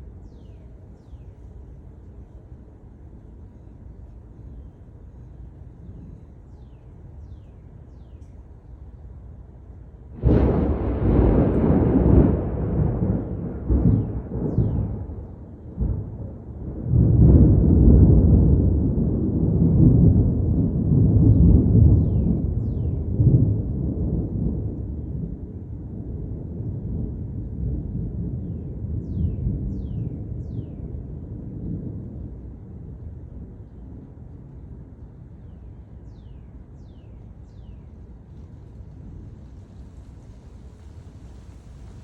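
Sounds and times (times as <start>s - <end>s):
low storm rumble: 0.0s - 42.0s.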